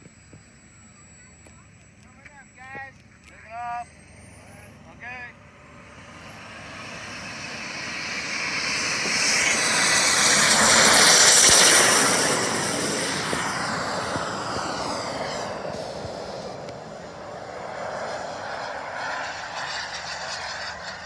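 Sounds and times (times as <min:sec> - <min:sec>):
jet turbine whine: 0:00.0 - 0:21.0.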